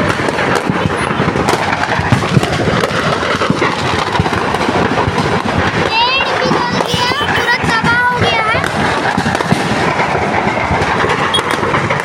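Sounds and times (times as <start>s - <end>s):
firecrackers crackling: 0.0s - 12.0s
sharp bang: 0.0s - 12.0s.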